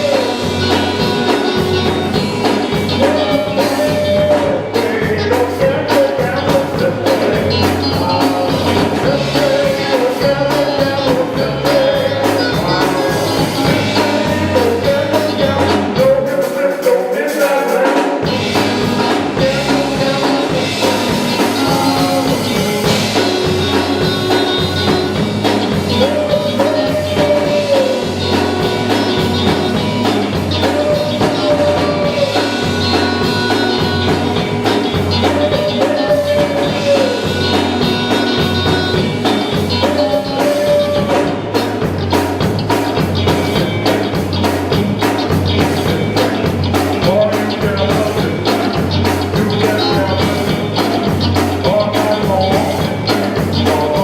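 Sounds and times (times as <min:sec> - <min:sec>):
drum kit beat: 0:00.0 - 0:54.0
gospel group performing: 0:00.0 - 0:54.0.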